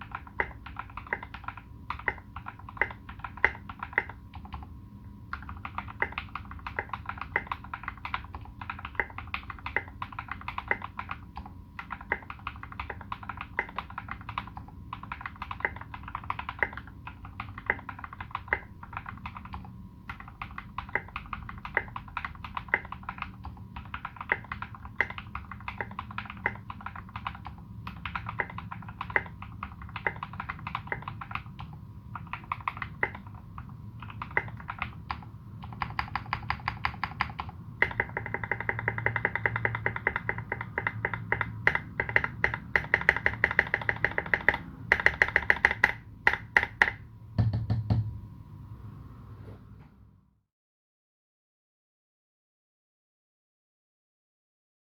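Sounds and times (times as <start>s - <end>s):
mechanical keyboard typing: 0.0s - 4.7s, 5.3s - 47.0s.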